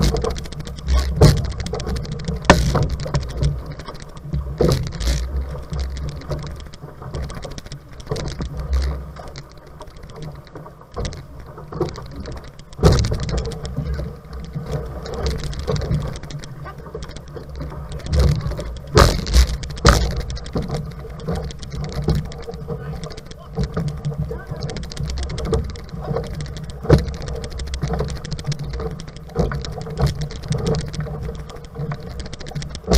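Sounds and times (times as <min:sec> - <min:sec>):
sharp splashes or knocks: 0:00.0 - 0:09.4, 0:10.0 - 0:32.9
water splashing against canoe hull: 0:00.0 - 0:32.9.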